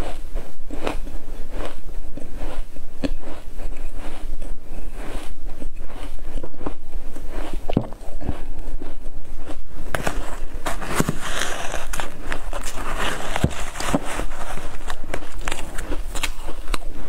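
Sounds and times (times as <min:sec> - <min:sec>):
crunching of frost being chewed: 0:00.0 - 0:17.0
metal spoon scraping frost: 0:00.0 - 0:17.0.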